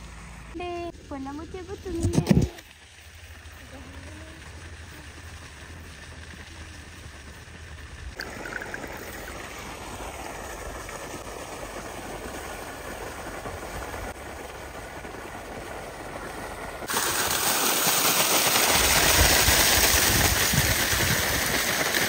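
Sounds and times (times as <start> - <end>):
water gushing from a pipe: 1.8 - 22.0.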